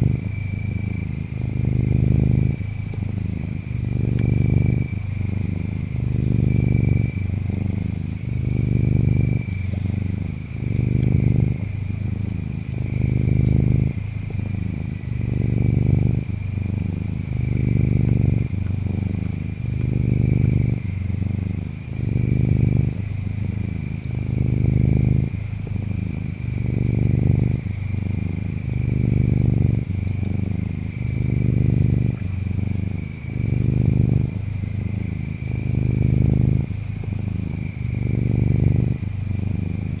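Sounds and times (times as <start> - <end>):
cat purring: 0.0 - 40.0
insects chirping: 0.0 - 40.0.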